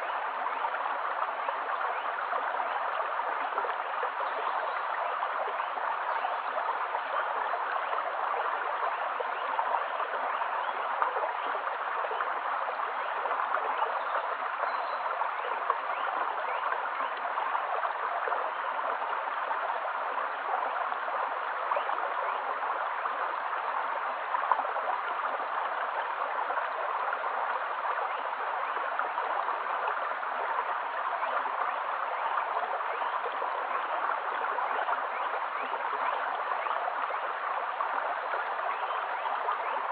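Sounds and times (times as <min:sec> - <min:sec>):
small water splashes: 0:00.0 - 0:39.9
stream babbling over stones: 0:00.0 - 0:39.9.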